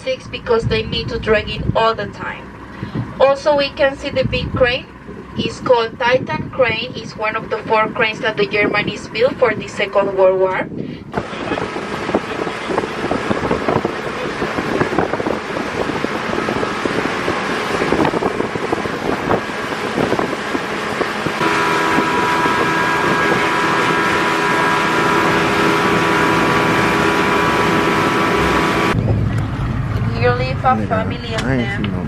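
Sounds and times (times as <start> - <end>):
motorboat engine droning: 0.0 - 32.0
wind buffeting microphone: 0.0 - 32.0.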